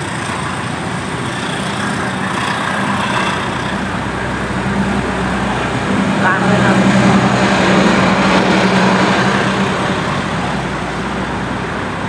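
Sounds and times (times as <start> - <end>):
low hum: 0.0 - 12.0
train wheels rumbling on track: 0.0 - 12.0.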